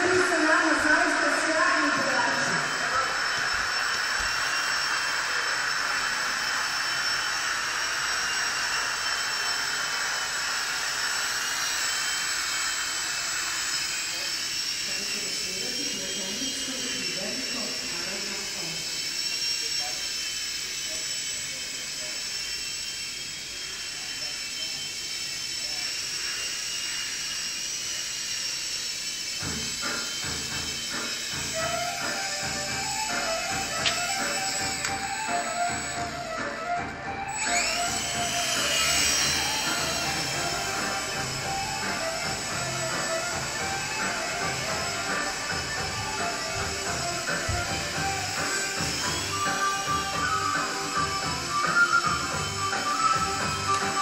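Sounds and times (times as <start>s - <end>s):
rc helicopter motor whine: 0.0s - 54.0s
rotor blades rushing: 0.0s - 54.0s.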